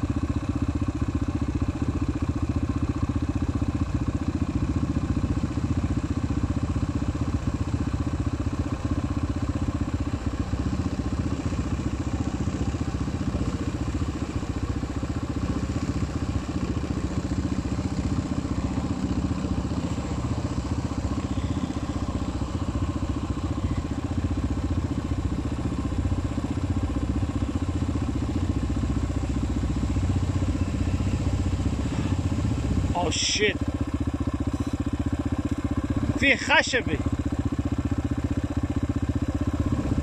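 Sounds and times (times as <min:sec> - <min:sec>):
atv engine droning: 0:00.0 - 0:40.0.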